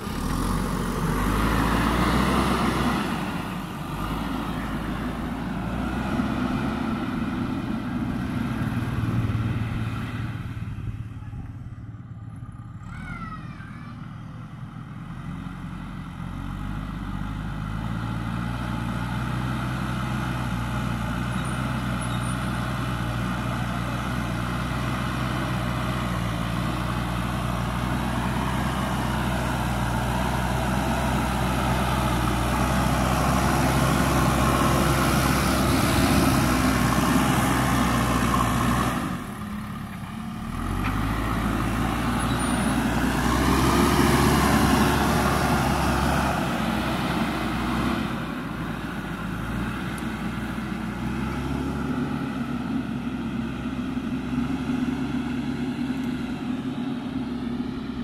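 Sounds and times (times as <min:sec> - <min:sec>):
backhoe diesel engine under load: 0:00.0 - 0:58.0.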